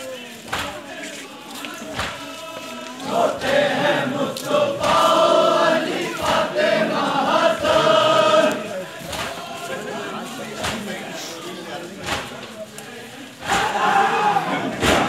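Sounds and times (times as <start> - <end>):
crowd noise: 0.0 - 15.0
men chanting in unison: 0.0 - 15.0.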